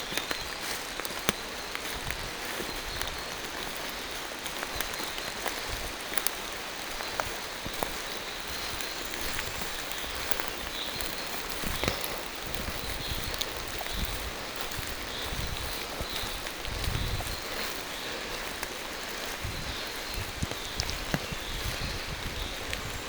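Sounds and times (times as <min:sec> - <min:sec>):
rain tapping on leaves: 0:00.0 - 0:23.0.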